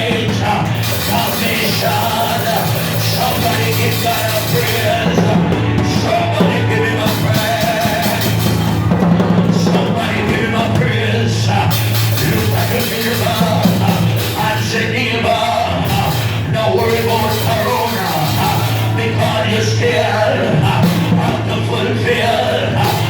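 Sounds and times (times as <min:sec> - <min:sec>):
live band music: 0:00.0 - 0:23.0
person singing: 0:00.0 - 0:23.0.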